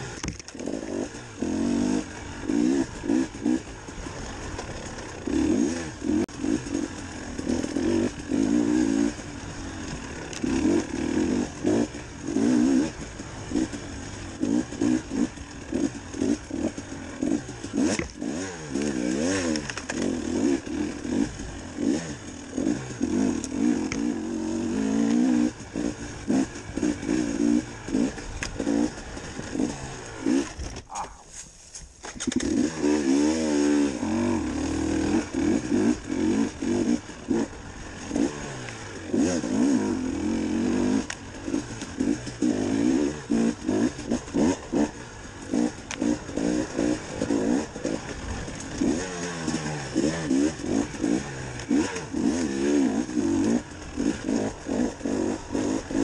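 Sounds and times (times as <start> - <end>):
dirt bike engine revving: 0.0 - 31.1, 32.0 - 56.0.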